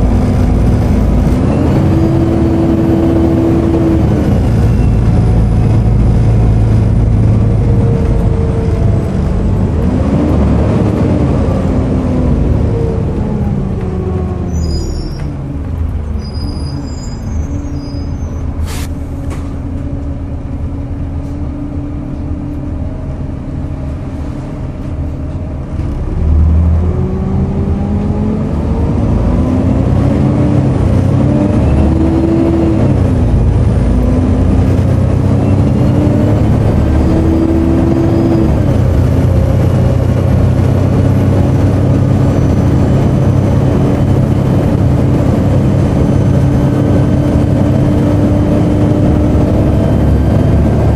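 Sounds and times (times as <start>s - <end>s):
bus engine pulling away: 0.0s - 50.9s.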